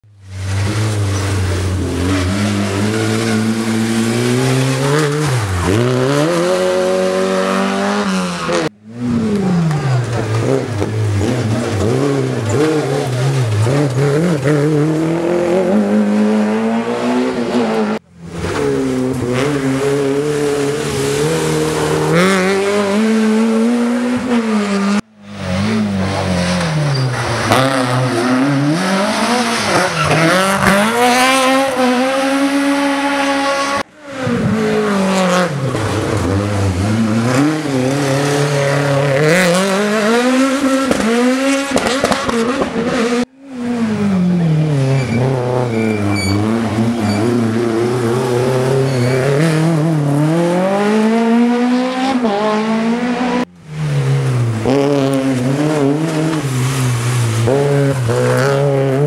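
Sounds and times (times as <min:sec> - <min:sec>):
rally car engines braking and revving: 0:00.0 - 0:59.0.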